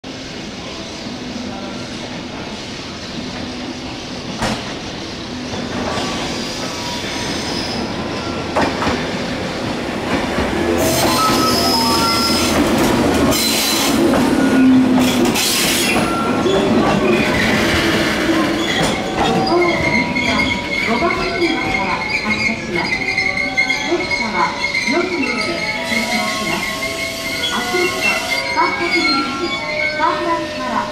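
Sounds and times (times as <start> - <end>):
electric train approaching: 0.1 - 30.9.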